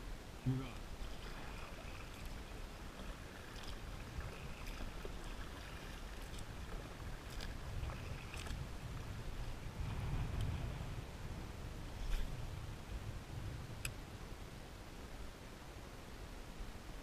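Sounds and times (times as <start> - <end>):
water and wind rumble: 0.0 - 17.0.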